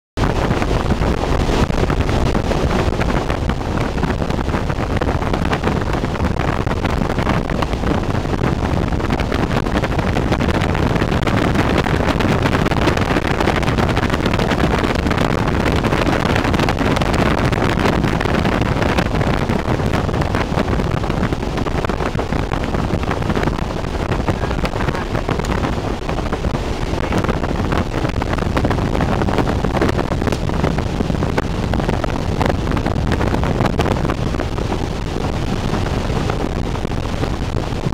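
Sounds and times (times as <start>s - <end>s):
wind tunnel fan and airflow: 0.2s - 37.9s.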